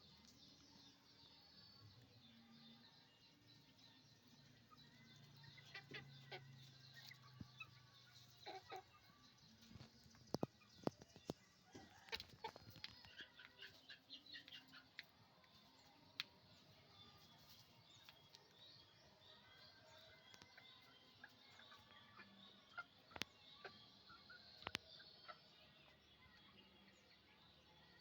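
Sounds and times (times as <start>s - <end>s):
chickens clucking: 3.6s - 26.7s.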